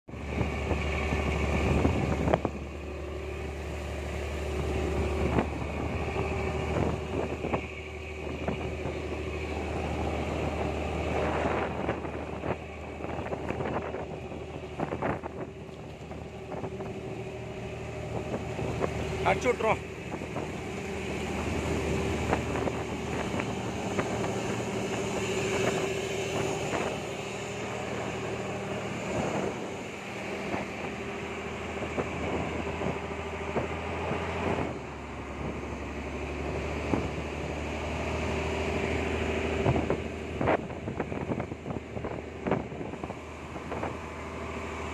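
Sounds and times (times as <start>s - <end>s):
boat engine droning: 0.0s - 44.9s
wind buffeting microphone: 0.1s - 44.9s.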